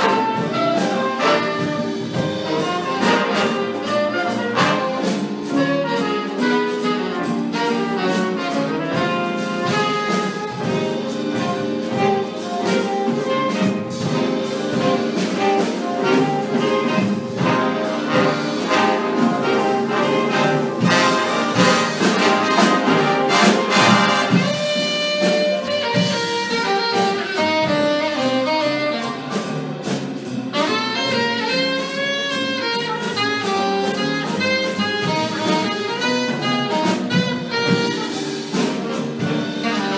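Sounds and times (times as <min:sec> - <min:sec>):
jazz big band playing: 0:00.0 - 0:39.9.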